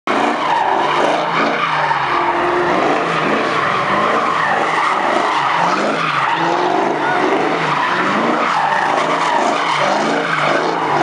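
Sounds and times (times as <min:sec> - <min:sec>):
car engine revving: 0:00.1 - 0:11.0
tyres squealing on asphalt: 0:00.1 - 0:11.0.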